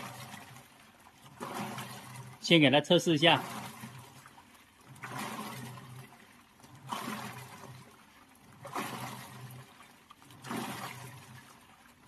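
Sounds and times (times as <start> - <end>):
low motor hum: 0.0 - 12.0
washing machine churning water: 0.0 - 12.0.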